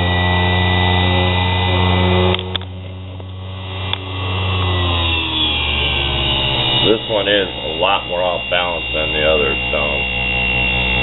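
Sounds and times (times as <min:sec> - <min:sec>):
bench grinder motor whining: 0:00.0 - 0:11.0.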